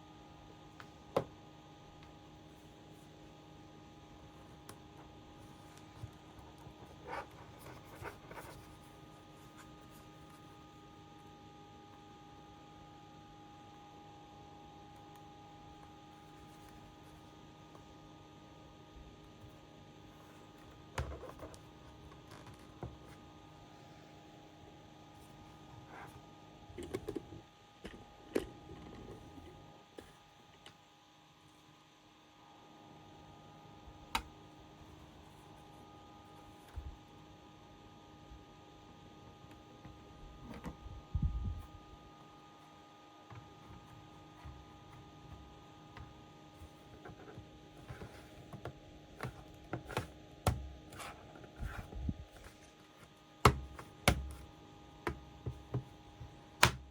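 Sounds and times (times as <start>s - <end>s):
faint steady hum: 0.0s - 56.9s.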